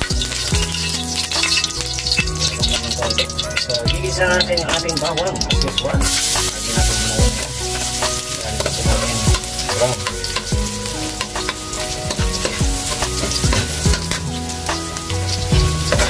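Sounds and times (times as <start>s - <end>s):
background music with beat: 0.0s - 16.0s
garlic sizzling in hot oil: 0.0s - 16.0s.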